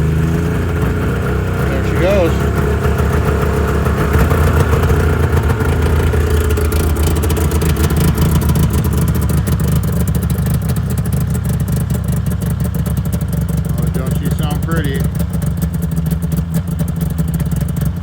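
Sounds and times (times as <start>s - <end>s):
light engine clatter: 0.0s - 18.0s
snowmobile engine idling: 0.0s - 18.0s.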